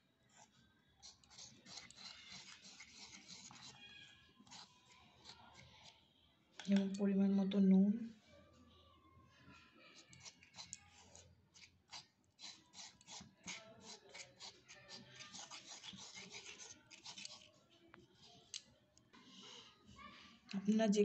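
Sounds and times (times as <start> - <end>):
spoon stirring batter in bowl: 0.0 - 7.8, 9.8 - 19.7.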